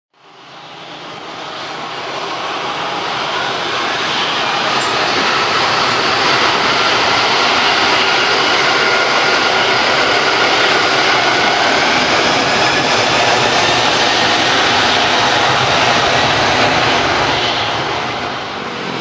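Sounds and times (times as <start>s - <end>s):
jet airliner engines passing: 0.2s - 19.0s.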